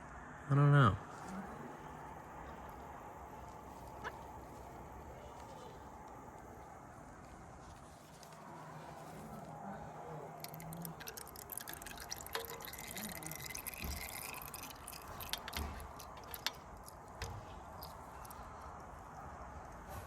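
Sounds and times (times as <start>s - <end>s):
oil dripping and trickling: 1.2s - 6.7s, 8.0s - 19.4s.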